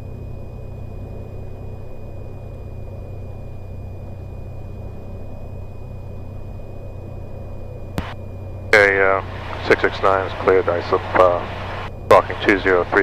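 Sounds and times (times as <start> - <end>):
aircraft engine idling: 0.0 - 13.0.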